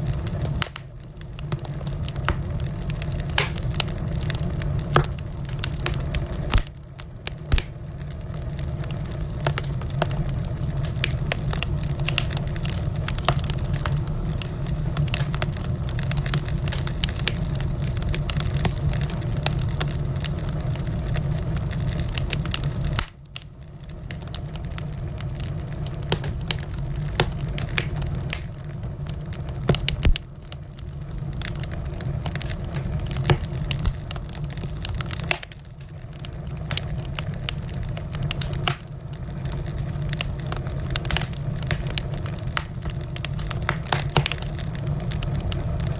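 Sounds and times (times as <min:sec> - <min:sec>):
low rumble of flames: 0:00.0 - 0:45.9
wood fire crackling: 0:00.0 - 0:45.9.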